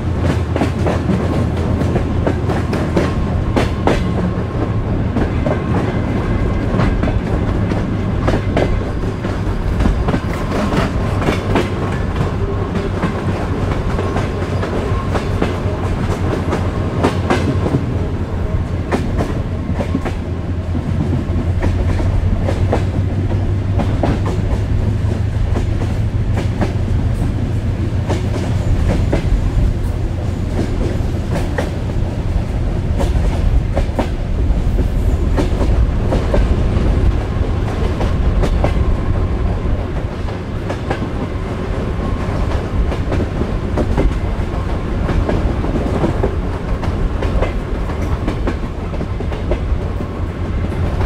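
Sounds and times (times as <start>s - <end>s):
train low rumble: 0.0s - 51.0s
train wheels clickety-clack: 0.0s - 51.0s.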